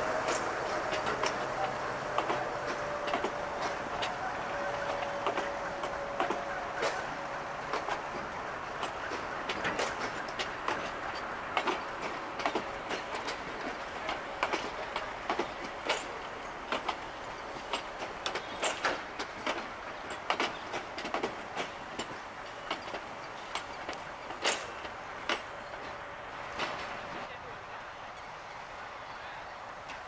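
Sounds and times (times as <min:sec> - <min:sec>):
wheels clacking over rail joints: 0:00.0 - 0:27.4, 0:28.0 - 0:30.0
steel wheels rolling on rail: 0:00.0 - 0:30.0.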